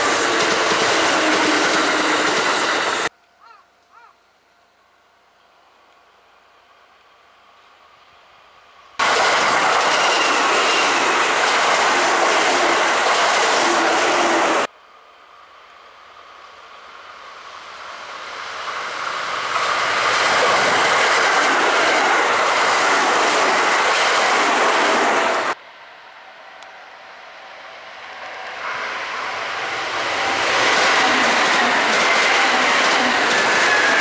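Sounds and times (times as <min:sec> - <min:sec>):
electric train passing at speed: 0:00.0 - 0:03.1, 0:05.6 - 0:34.0.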